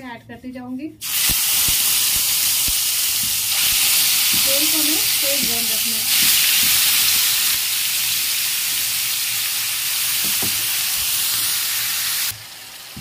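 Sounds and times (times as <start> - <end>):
chicken sizzling in hot oil: 1.0 - 13.0.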